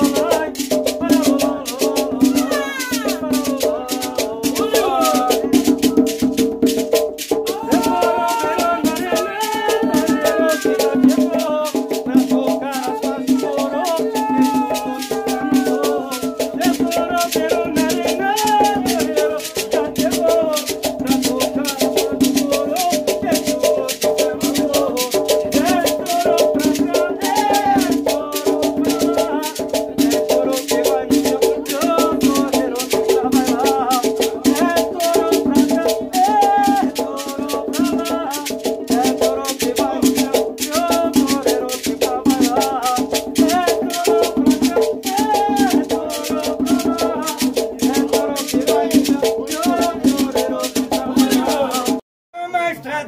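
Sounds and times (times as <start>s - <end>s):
fast percussion with rattles: 0.0s - 52.0s
voices singing a chant: 0.0s - 52.0s.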